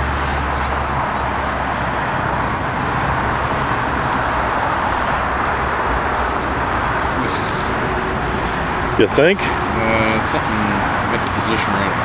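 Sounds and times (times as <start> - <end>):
cars passing on busy street: 0.0 - 12.0.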